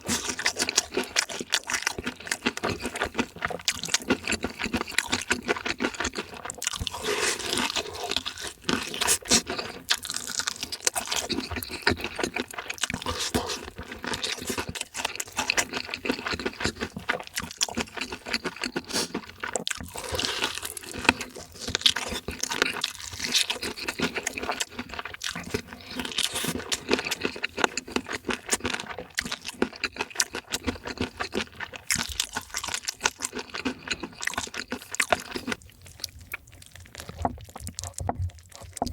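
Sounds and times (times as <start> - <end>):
crunchy chewing of fried food: 0.0 - 38.9
wet mouth sounds: 0.0 - 38.9.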